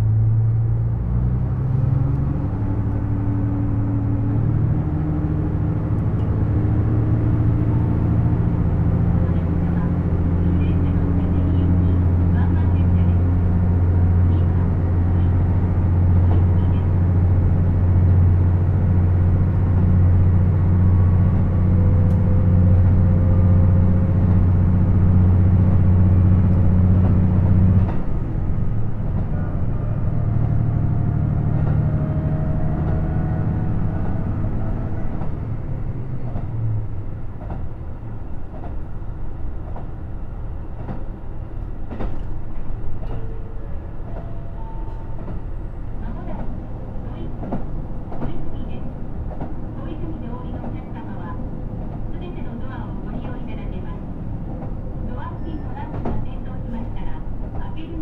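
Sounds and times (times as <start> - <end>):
diesel railcar engine droning: 0.0 - 58.0
train wheel and rail noise: 0.0 - 58.0.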